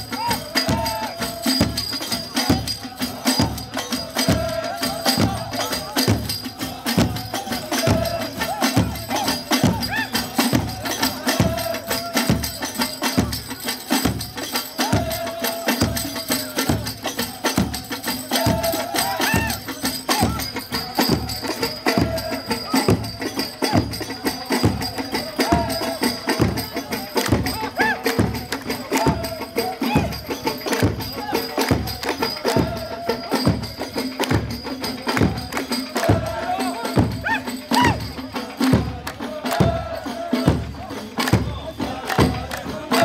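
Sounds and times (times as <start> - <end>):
frame drums beating: 0.0 - 43.0
men singing in chorus: 0.0 - 43.0.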